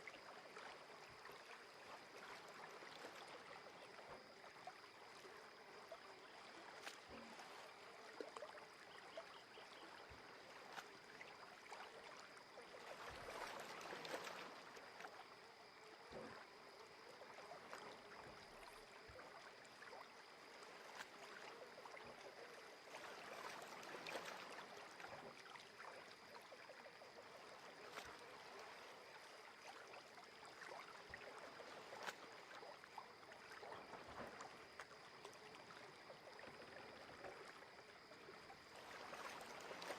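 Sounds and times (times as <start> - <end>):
water lapping at shore: 0.0 - 39.9.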